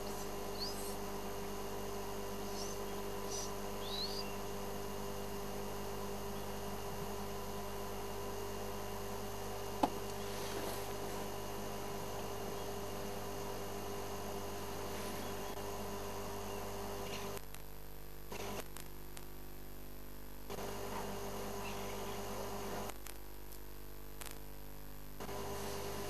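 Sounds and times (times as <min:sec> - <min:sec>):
electrical hum with hiss: 0:00.0 - 0:26.0.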